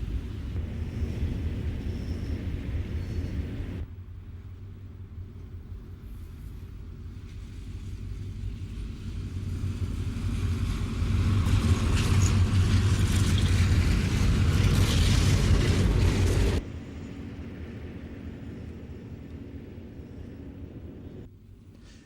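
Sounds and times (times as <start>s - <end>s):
diesel locomotive engine drone: 0.0s - 22.0s
rail noise: 0.0s - 22.0s.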